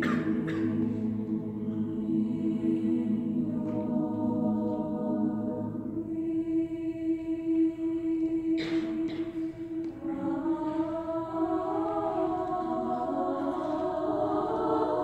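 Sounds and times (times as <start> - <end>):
choir singing sustained notes: 0.0 - 15.0.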